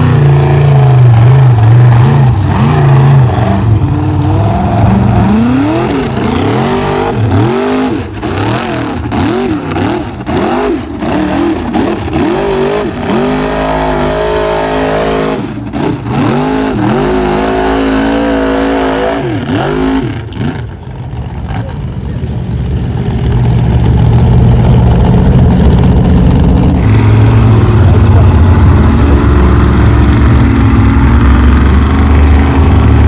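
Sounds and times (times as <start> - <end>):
race truck engine revving: 0.0 - 33.0.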